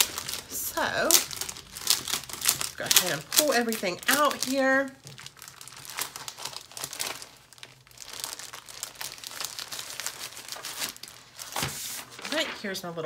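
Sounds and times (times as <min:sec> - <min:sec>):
plastic bag crinkling: 0:00.0 - 0:12.9.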